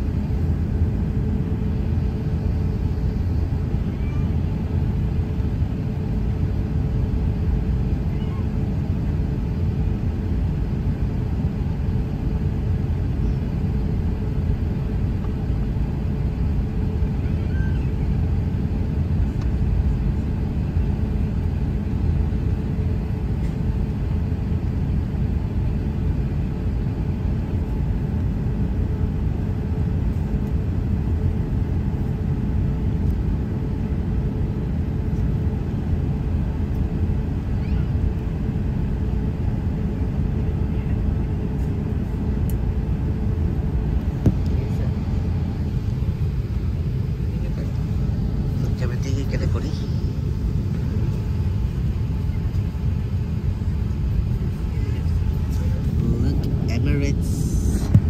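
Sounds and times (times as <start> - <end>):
jet engines low rumble in cabin: 0.0 - 58.0.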